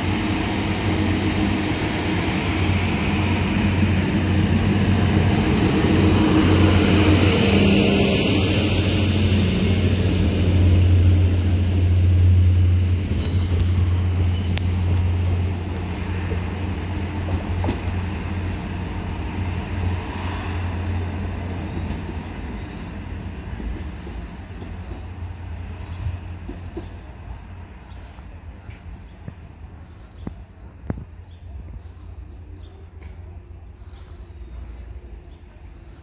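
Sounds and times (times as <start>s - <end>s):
train engines droning: 0.0s - 36.0s.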